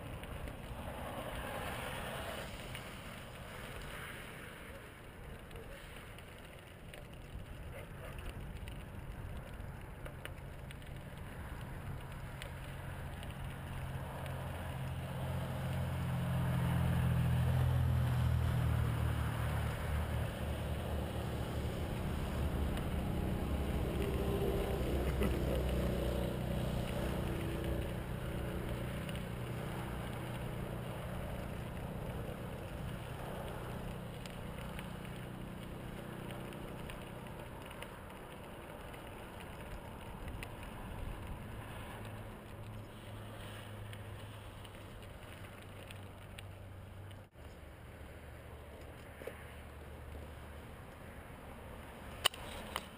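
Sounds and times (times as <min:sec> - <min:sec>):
bicycle tyre rumble on gravel: 0:00.0 - 0:52.9
wind: 0:00.0 - 0:52.9.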